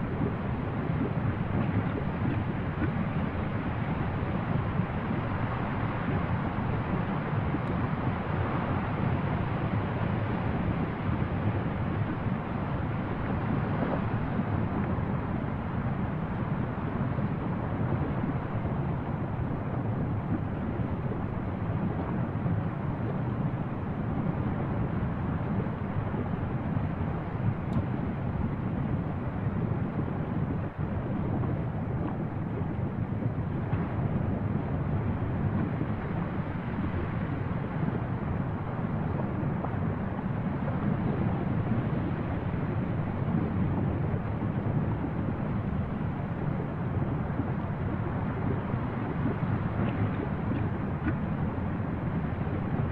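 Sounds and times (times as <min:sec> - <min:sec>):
lava vent low rumbling: 0:00.0 - 0:52.9.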